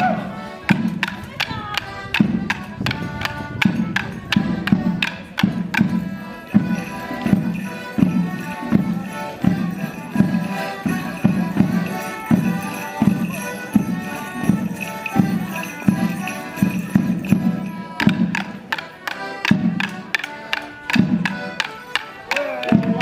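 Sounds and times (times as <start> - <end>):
melodeon folk dance tune: 0.0 - 23.0.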